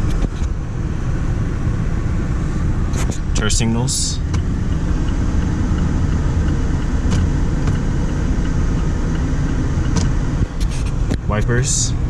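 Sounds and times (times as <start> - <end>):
car engine idling: 0.0 - 12.0
turn signal ticking: 1.2 - 12.0.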